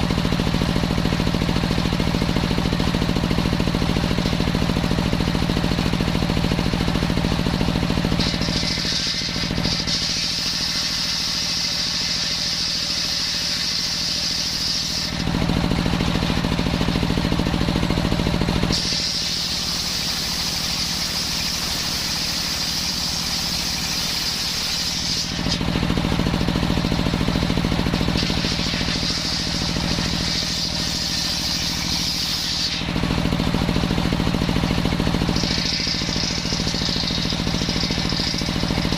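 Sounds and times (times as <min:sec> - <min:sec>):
circular saw cutting wood: 0:00.0 - 0:38.9
saw engine humming: 0:00.0 - 0:38.9.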